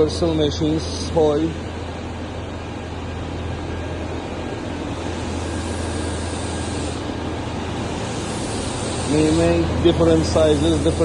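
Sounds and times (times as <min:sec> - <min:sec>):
machine tools droning: 0:00.0 - 0:11.0.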